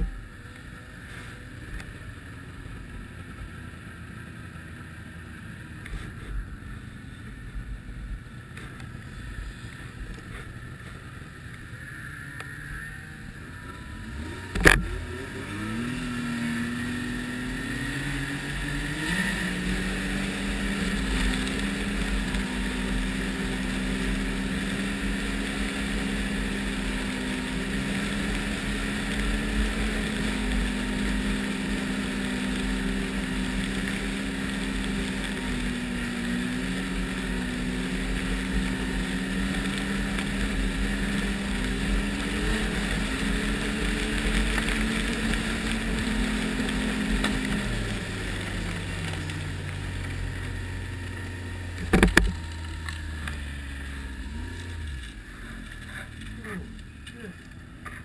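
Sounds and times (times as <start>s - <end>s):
snowmobile engine at high revs: 0.0s - 58.0s.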